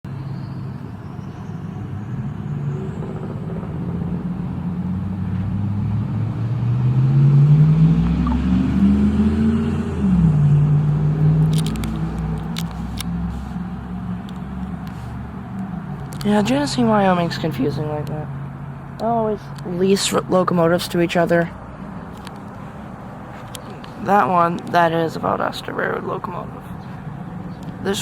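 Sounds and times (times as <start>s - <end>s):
engine running: 0.8s - 28.0s.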